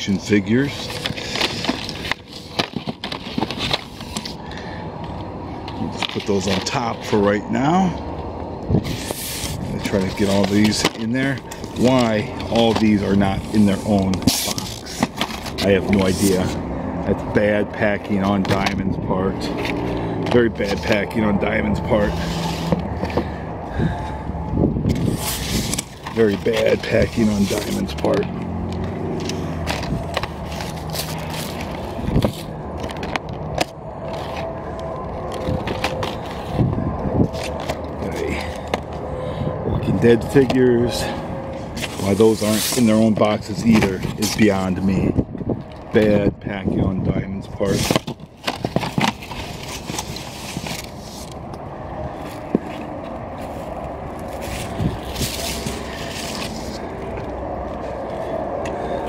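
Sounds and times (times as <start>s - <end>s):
packaging scraping and rustling: 0.0s - 7.4s, 8.8s - 24.2s, 24.9s - 39.1s, 39.9s - 45.0s, 47.5s - 59.0s
outdoor background noise: 0.0s - 59.0s
steady low hum: 0.0s - 59.0s.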